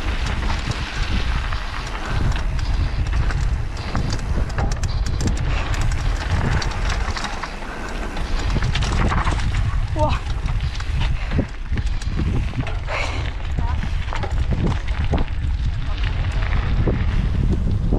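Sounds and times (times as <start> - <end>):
bike rattling and knocking: 0.0 - 17.9
wind buffeting microphone: 0.0 - 17.9.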